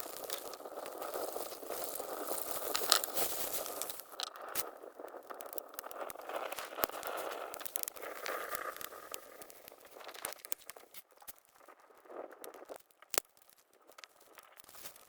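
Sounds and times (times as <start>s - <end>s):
rustling and crackling: 0.0s - 15.0s.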